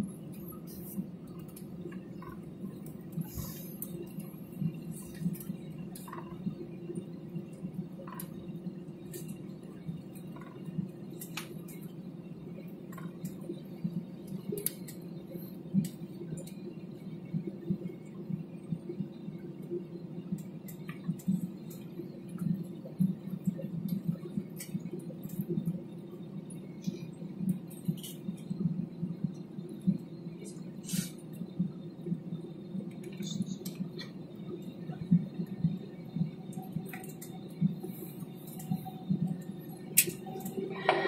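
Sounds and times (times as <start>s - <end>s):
airliner cabin hum: 0.0s - 41.0s.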